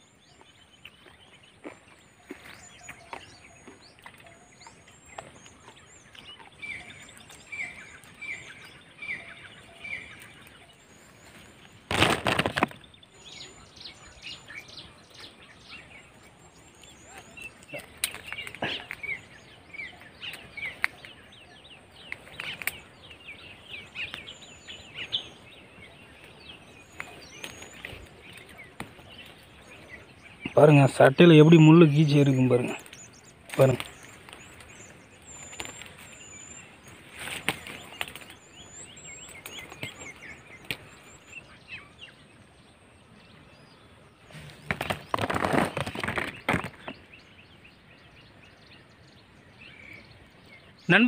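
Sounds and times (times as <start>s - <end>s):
small birds chirping: 0.0s - 51.0s
branches clicking and rustling: 0.3s - 41.5s, 44.2s - 47.3s.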